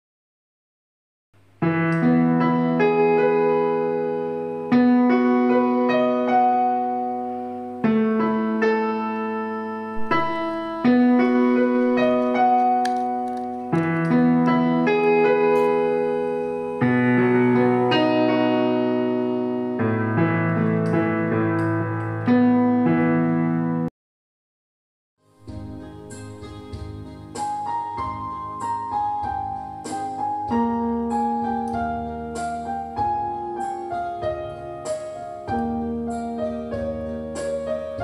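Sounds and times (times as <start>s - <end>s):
slow keyboard chords: 1.4s - 23.9s, 25.2s - 38.0s.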